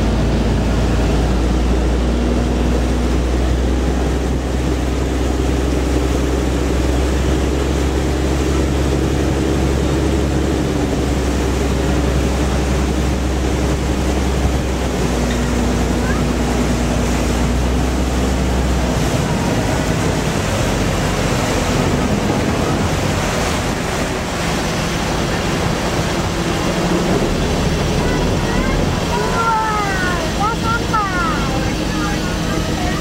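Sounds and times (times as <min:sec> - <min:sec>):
boat engine droning: 0:00.0 - 0:33.0
water rushing: 0:00.0 - 0:33.0
wind: 0:00.0 - 0:33.0.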